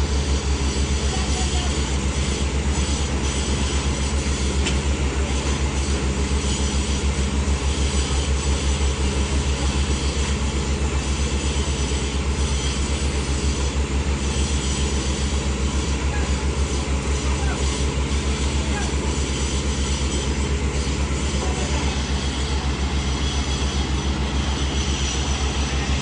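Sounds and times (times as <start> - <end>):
machine engine running: 0.0 - 26.0.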